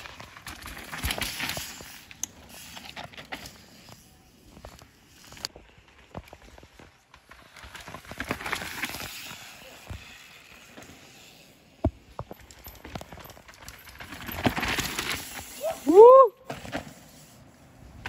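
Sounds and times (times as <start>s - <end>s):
bike tyres scrabbling over dirt: 0.0s - 18.0s.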